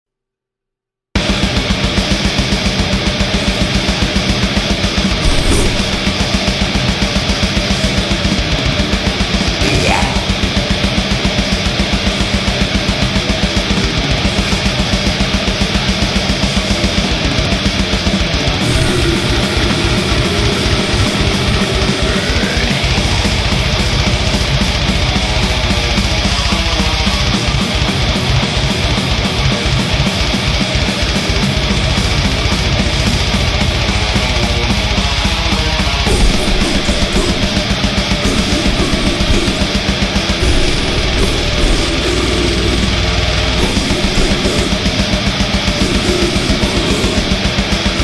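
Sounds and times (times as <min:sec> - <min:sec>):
heavy metal music: 0:01.2 - 0:48.0.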